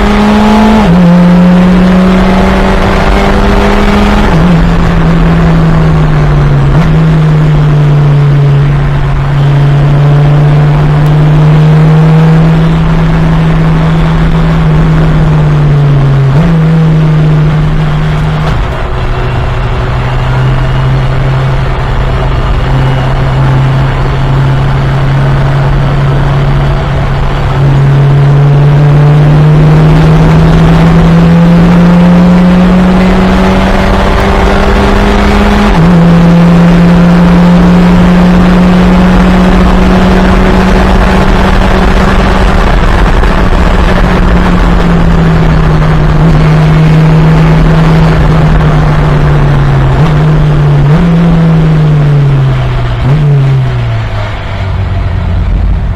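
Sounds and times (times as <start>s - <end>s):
race car engine running hard: 0.0s - 55.9s.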